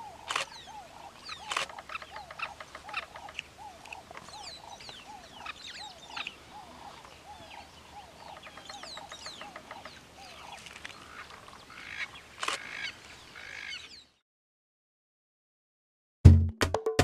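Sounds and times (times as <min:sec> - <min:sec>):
wild birds calling: 0:00.0 - 0:14.2.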